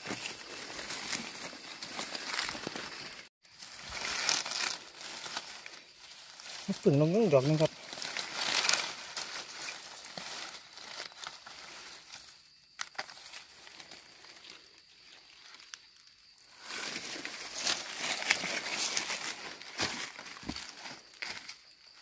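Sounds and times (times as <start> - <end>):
dry leaves crackling and rustling: 0.0 - 22.0
footsteps crunching dry leaves: 0.0 - 22.0.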